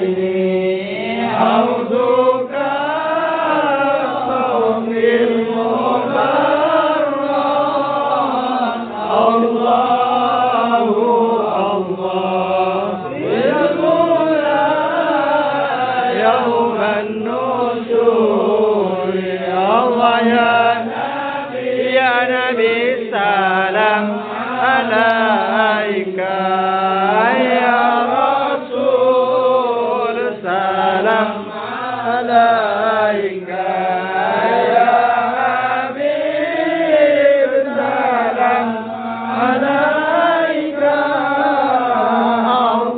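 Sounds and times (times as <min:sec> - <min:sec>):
man chanting into a microphone: 0:00.0 - 0:42.9
men chanting together: 0:00.0 - 0:42.9.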